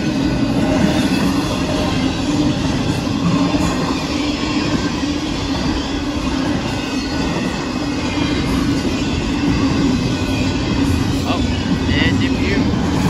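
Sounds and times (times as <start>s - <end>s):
freight train rumbling and rattling: 0.0s - 13.0s.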